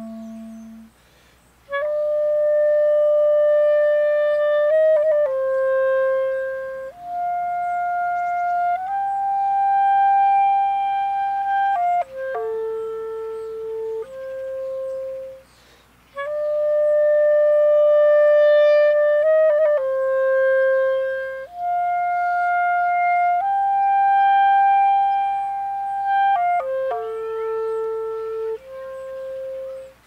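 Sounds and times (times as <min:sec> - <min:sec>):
solo clarinet melody: 0:00.0 - 0:01.1, 0:01.7 - 0:30.0.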